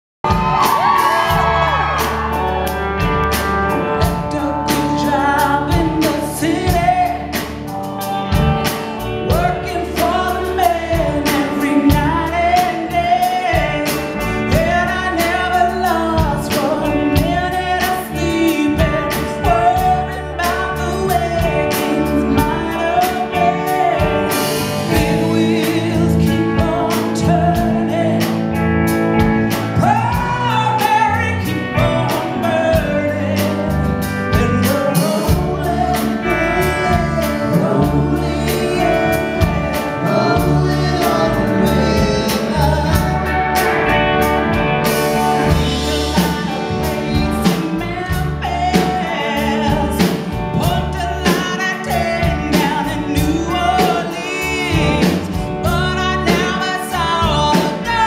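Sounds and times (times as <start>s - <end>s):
steady drum beat: 0.2s - 28.2s, 29.0s - 58.0s
band music: 0.2s - 58.0s
strong bass line: 0.2s - 58.0s
woman singing: 4.0s - 7.4s, 9.3s - 28.4s, 29.8s - 43.4s, 45.4s - 58.0s.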